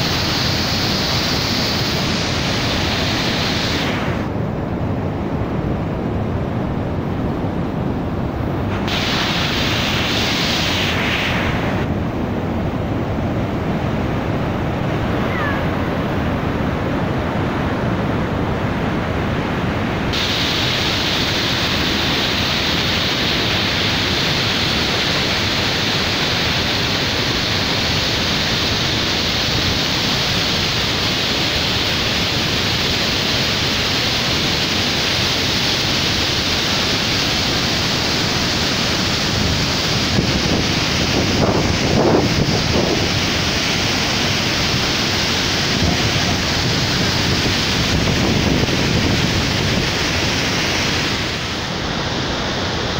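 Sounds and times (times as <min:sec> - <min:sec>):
waterfall roaring: 0:00.0 - 0:52.9.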